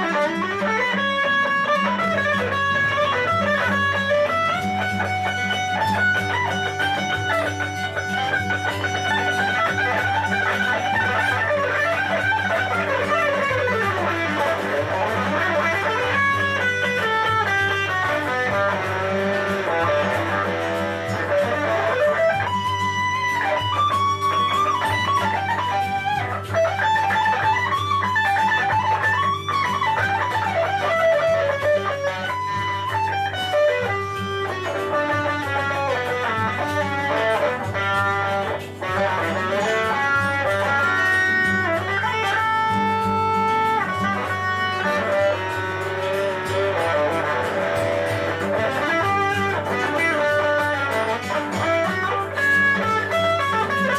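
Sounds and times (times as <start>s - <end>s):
guitar solo melody: 0.0s - 53.9s.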